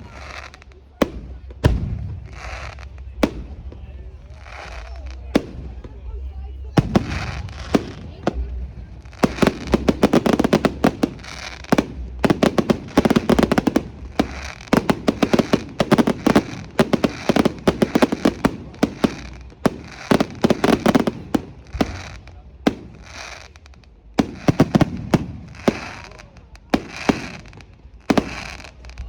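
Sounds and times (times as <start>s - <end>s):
fireworks crackling bangs: 0.0s - 29.0s.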